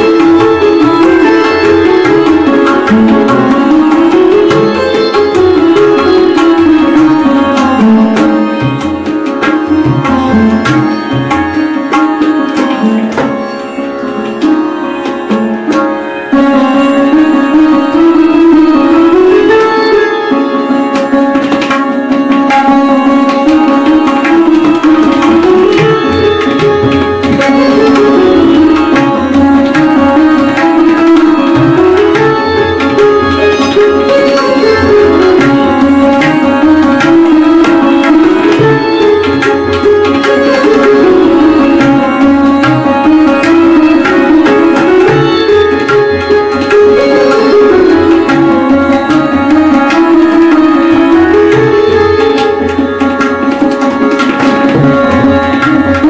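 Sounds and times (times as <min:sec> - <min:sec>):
tabla: 0:00.0 - 0:56.0.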